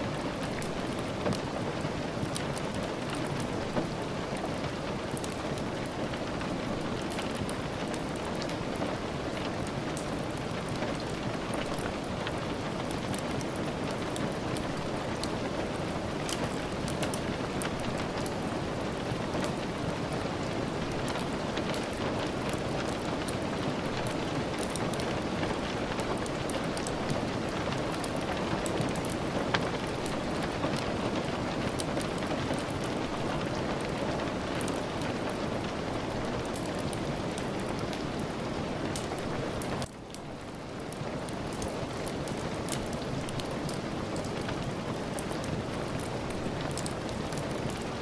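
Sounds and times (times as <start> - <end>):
steady rain falling: 0.0 - 48.0
wood fire crackling: 0.0 - 48.0.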